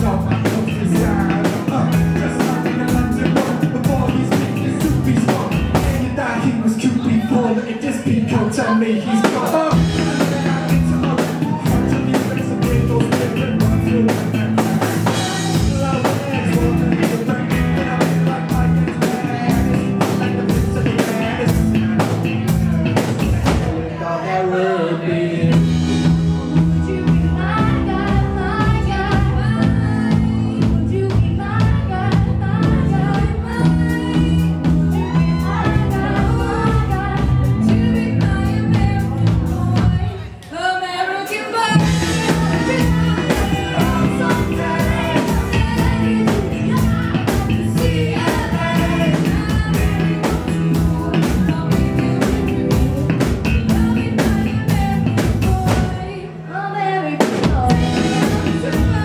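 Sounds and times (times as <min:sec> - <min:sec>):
drum kit: 0:00.0 - 0:24.0, 0:25.4 - 0:40.6, 0:41.2 - 0:56.3, 0:57.1 - 0:59.0
lead and group vocals: 0:00.0 - 0:59.0
live rock band: 0:00.0 - 0:59.0.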